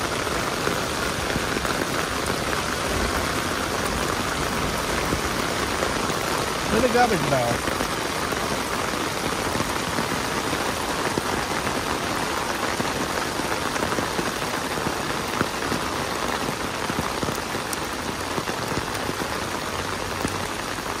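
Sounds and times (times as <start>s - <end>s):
heavy rain on standing water: 0.0s - 21.0s.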